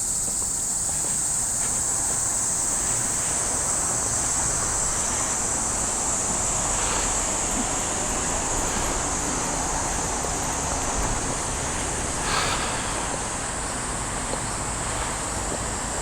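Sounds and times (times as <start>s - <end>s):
constant high-pitched hiss: 0.0s - 16.0s.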